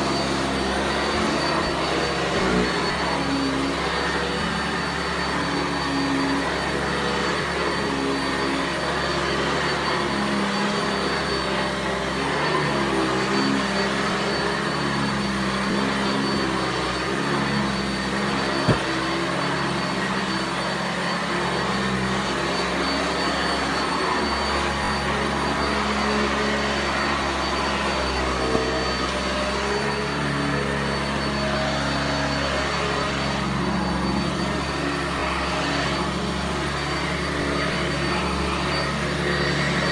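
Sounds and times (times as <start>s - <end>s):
upright vacuum cleaner on carpet: 0.0s - 39.9s.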